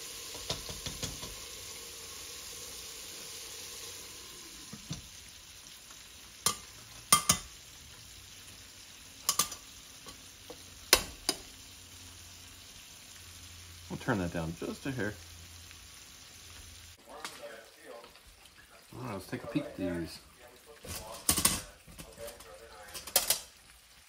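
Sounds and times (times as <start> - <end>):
meat sizzling in hot oil: 0.0 - 24.0.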